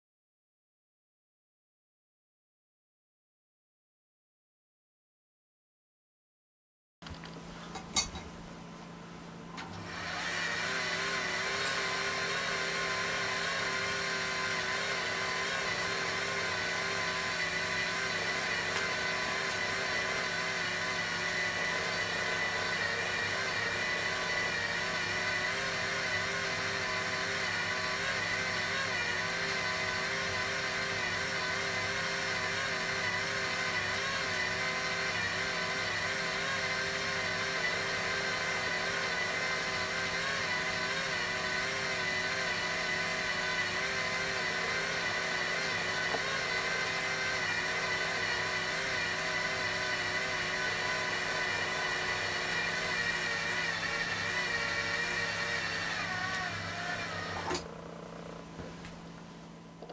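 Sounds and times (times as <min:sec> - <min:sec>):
motor whine: 0:07.6 - 0:59.9.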